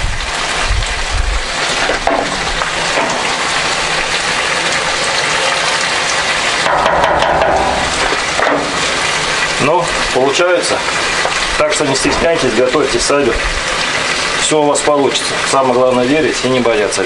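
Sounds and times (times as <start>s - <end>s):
rice boiling in a pot: 0.0s - 17.0s.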